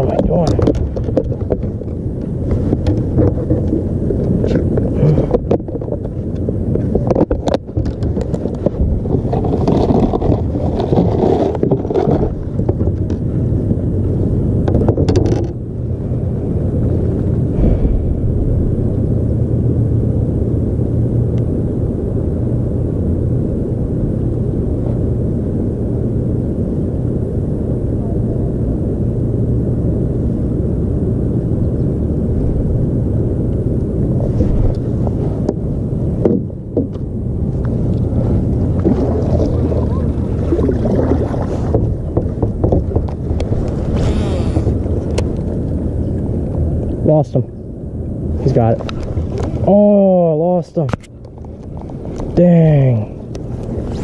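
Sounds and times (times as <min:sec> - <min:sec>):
motorboat engine droning: 0:00.0 - 0:54.0
wind buffeting microphone: 0:00.0 - 0:54.0.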